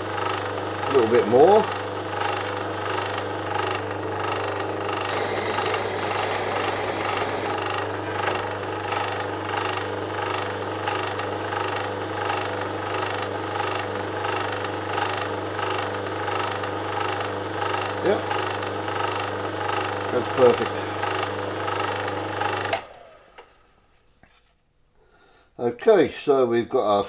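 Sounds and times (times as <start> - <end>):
drill press cutting: 0.2 - 23.5.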